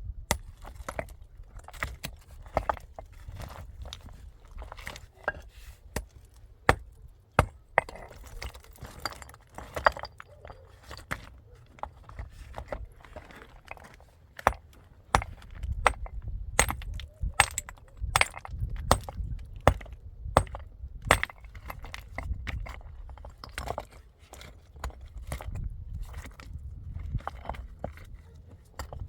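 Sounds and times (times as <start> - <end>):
hard objects clinking: 0.3 - 25.0.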